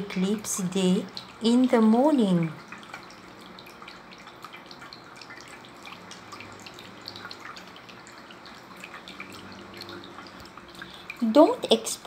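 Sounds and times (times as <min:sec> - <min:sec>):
low steady hum: 0:00.0 - 0:12.0
water dripping: 0:00.0 - 0:12.0.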